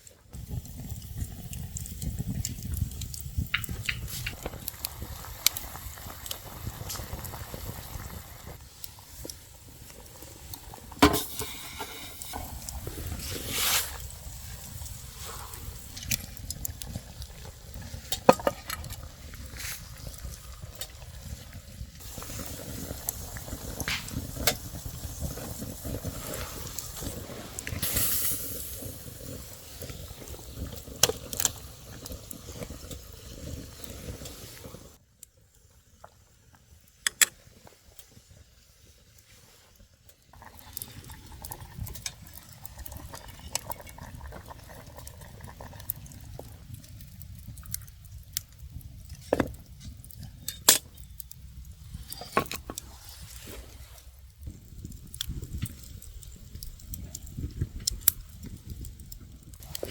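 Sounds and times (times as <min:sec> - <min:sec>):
liquid bubbling in a pot: 0:00.0 - 0:35.0, 0:37.4 - 0:59.9.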